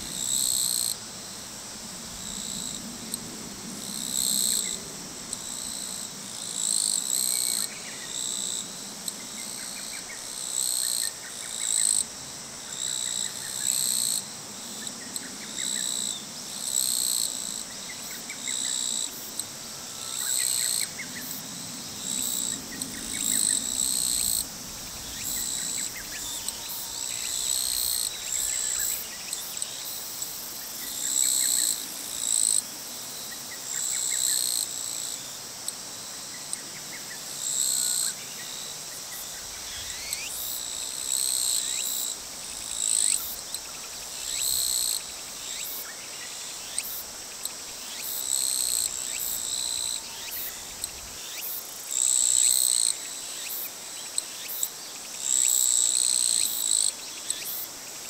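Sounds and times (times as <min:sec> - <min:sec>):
insects calling in shrill pulses: 0:00.0 - 0:01.5, 0:03.8 - 0:58.0
faint insect chirping: 0:00.0 - 0:58.0.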